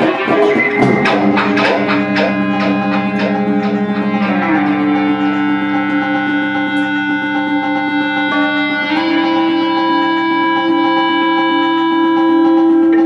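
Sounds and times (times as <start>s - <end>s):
quick percussive strikes: 0.0s - 11.7s
experimental music with electric guitar: 0.0s - 13.0s
long held tones: 0.0s - 13.0s.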